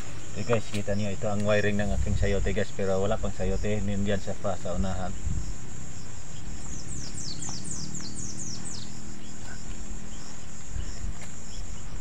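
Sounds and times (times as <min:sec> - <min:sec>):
high drone of insects: 0:00.0 - 0:12.0.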